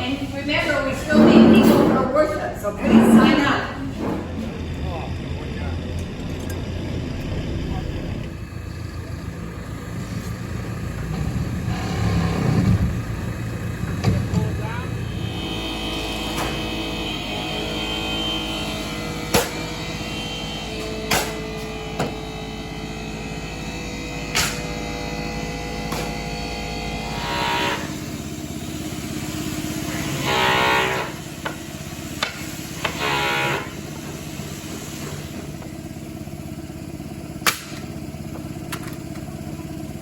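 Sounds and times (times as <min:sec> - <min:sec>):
machine engine running: 0:00.0 - 0:40.0.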